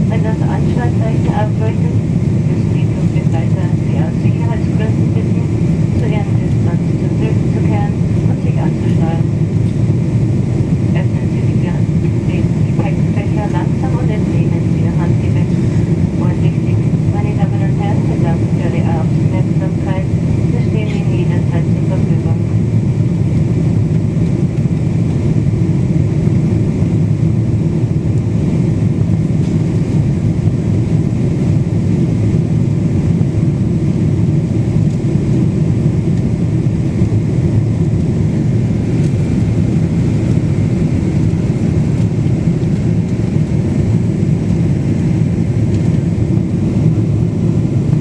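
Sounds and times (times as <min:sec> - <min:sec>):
airliner cabin drone: 0:00.0 - 0:48.0.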